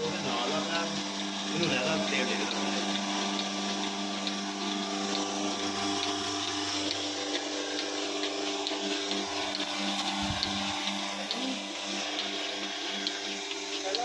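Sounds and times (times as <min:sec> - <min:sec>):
vacuum pump humming: 0:00.0 - 0:14.0
faint regular clicks: 0:00.9 - 0:14.0.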